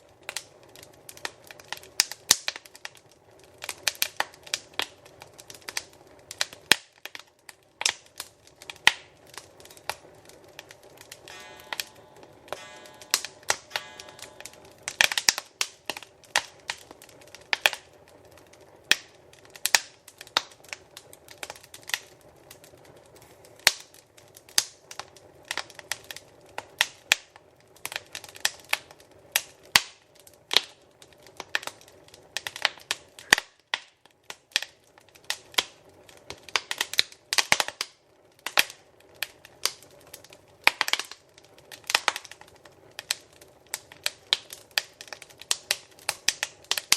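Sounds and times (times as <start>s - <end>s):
faint steady hiss: 0.0s - 46.9s
wood fire crackling and popping: 0.0s - 46.9s.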